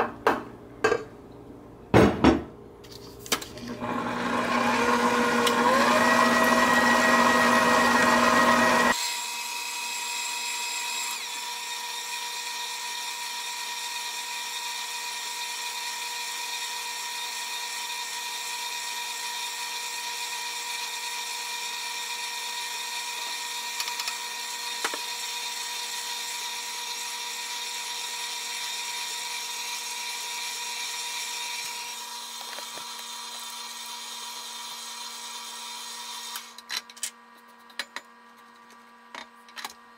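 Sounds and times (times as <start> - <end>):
stand mixer motor whine: 3.6 - 36.4.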